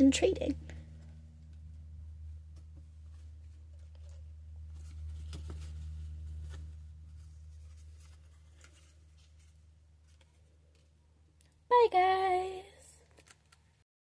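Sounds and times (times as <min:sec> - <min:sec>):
low electrical hum: 0:00.0 - 0:13.8.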